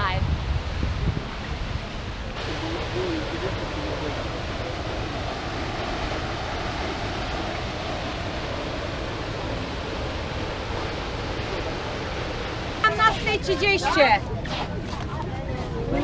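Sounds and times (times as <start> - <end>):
waterfall roaring: 0.0 - 14.8.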